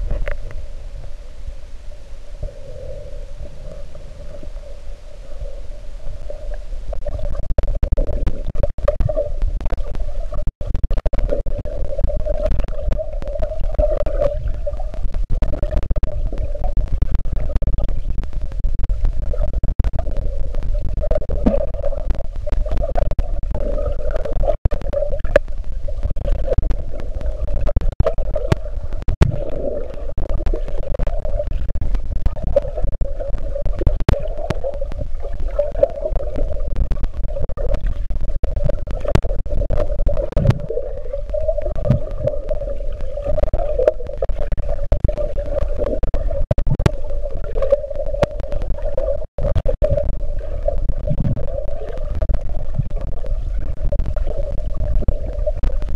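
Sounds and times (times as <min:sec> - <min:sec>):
small underwater clicks and knocks: 0:00.0 - 0:00.7, 0:06.0 - 0:55.9
muffled underwater rumble: 0:00.0 - 0:55.9.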